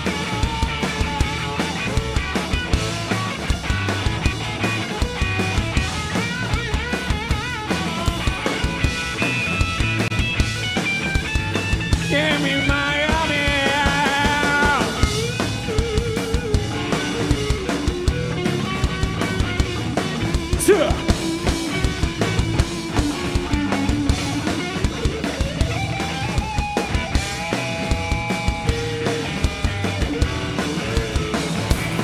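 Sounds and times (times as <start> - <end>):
drum kit beat: 0.0 - 32.0
electric guitar lead line: 0.0 - 32.0.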